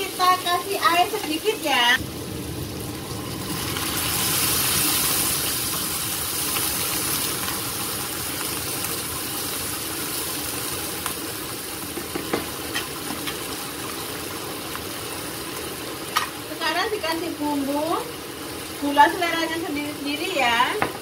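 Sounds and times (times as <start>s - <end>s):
food sizzling: 0.0s - 21.0s
water hissing in hot oil: 0.0s - 21.0s.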